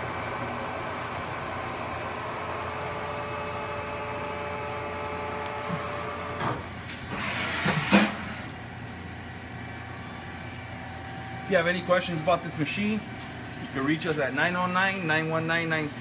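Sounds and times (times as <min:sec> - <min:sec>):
machine spindle humming and whining: 0:00.0 - 0:16.0.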